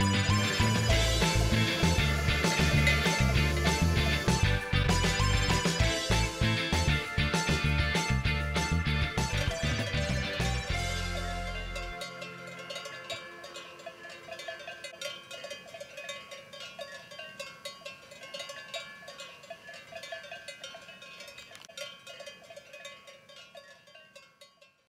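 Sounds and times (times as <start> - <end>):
animal bells clanking: 0.0 - 24.9.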